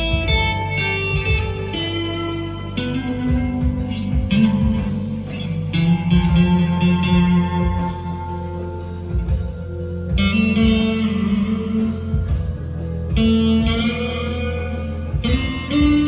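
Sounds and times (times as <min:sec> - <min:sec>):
backing track with bass and drums: 0:00.0 - 0:16.0
clean electric guitar lead notes: 0:00.0 - 0:16.0.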